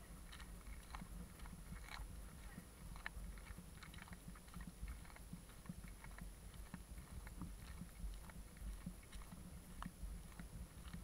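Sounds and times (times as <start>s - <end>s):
footsteps clicking and tapping: 0.0s - 11.0s.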